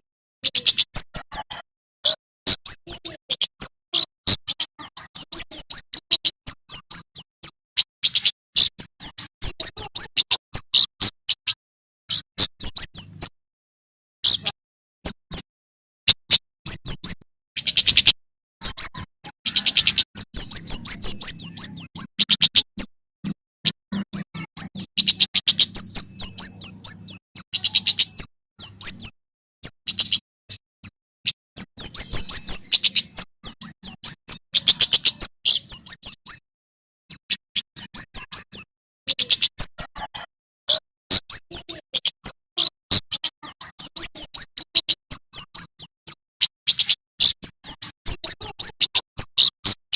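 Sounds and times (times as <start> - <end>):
bird singing high sharp chirps: 0.4 - 13.4, 14.2 - 15.5, 16.1 - 36.4, 37.1 - 49.8.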